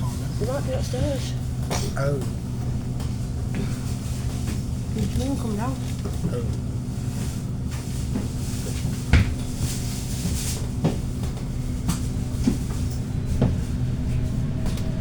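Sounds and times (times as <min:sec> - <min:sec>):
bus engine humming: 0:00.0 - 0:15.0
rattles in bus interior: 0:00.0 - 0:15.0.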